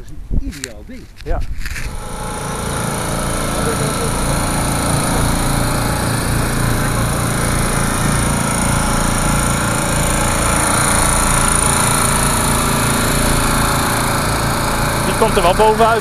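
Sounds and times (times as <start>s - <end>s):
portable generators running: 1.1s - 16.0s.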